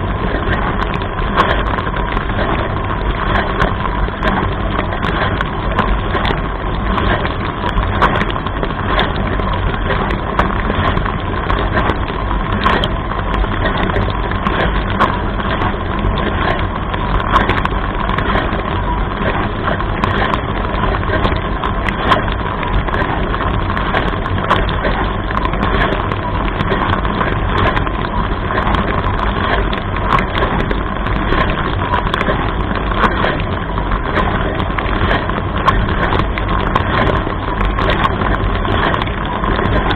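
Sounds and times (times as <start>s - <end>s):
dishwasher water splashing: 0.0s - 39.9s
faint steady hum: 0.0s - 39.9s.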